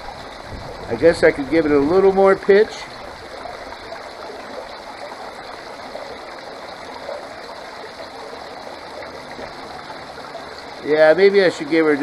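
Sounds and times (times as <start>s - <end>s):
water rushing down sluice: 0.0s - 12.0s.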